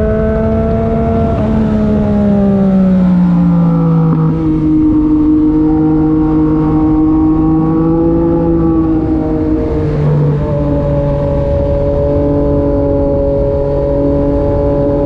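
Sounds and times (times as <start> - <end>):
motorcycle engine riding: 0.0 - 15.0.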